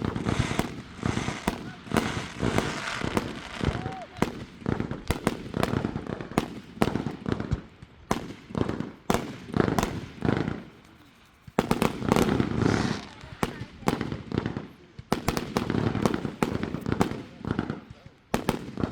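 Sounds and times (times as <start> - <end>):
fireworks bangs and pops: 0.0 - 18.9.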